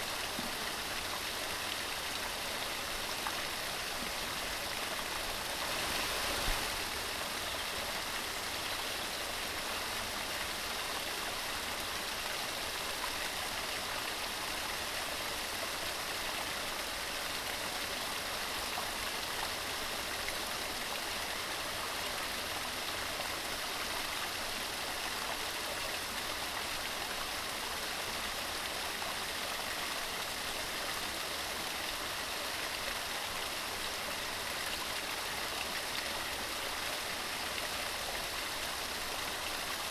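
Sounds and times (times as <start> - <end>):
stream flowing water: 0.0 - 39.9.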